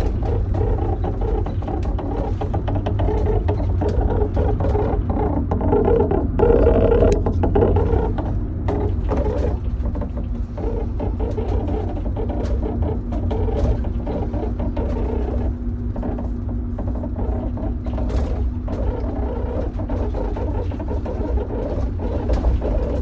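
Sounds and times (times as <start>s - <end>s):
high-pitched rubbing from undercarriage: 0.0s - 23.0s
low road rumble: 0.0s - 23.0s.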